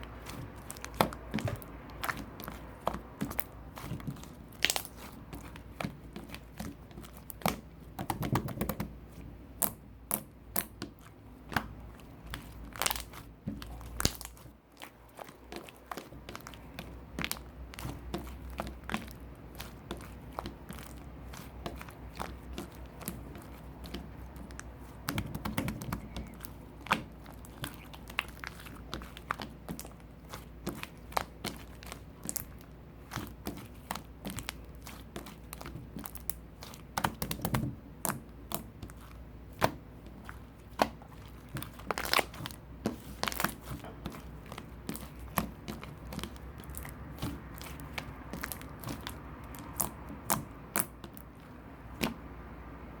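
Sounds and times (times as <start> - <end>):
slime squished by hand: 0.0 - 52.5.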